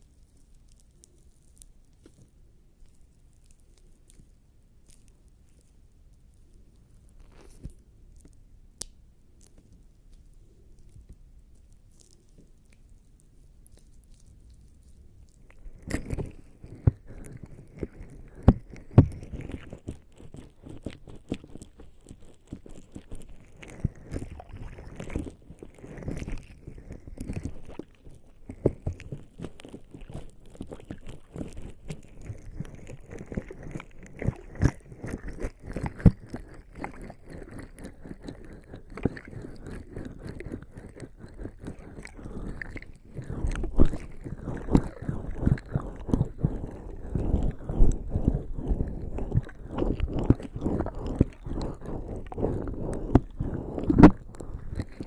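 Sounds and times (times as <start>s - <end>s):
jelly squelching on microphone: 10.8s - 55.0s.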